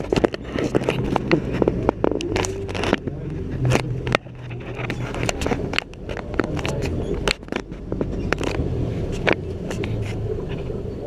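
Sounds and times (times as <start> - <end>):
boat motor humming: 0.0 - 11.0
branches crackling against boat: 0.0 - 11.0.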